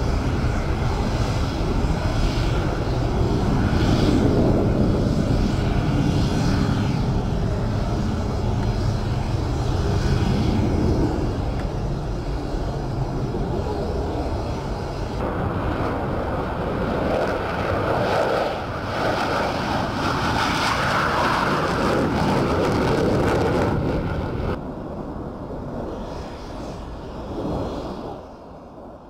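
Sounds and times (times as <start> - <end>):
fighter jet engines rumbling: 0.0 - 29.0.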